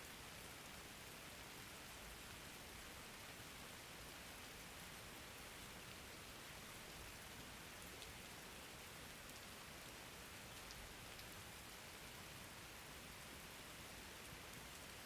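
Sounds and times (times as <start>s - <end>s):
faint rain falling: 0.0s - 15.0s.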